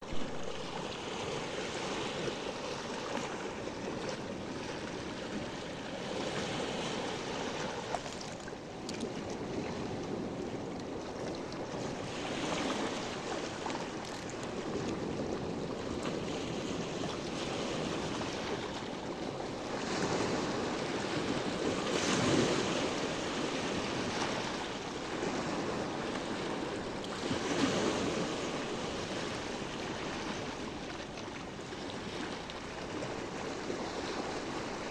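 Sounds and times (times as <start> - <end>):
sea waves washing ashore: 0.0 - 34.9.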